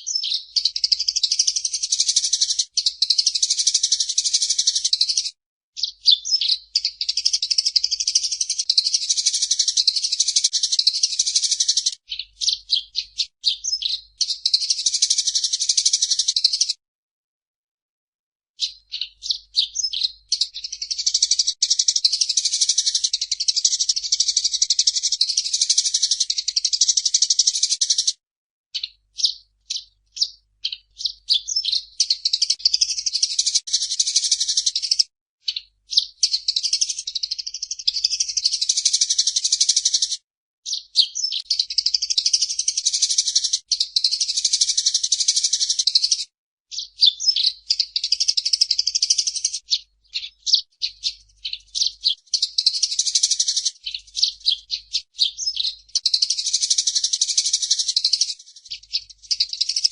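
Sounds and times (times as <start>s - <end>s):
sparrow chattering: 0.0s - 16.8s, 18.6s - 28.2s, 28.8s - 59.9s.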